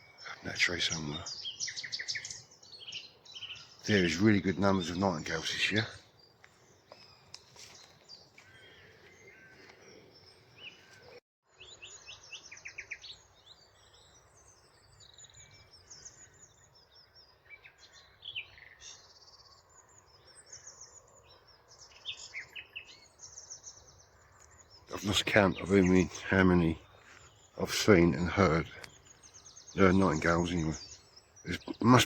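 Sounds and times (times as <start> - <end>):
nightingale singing: 0.0 - 32.0.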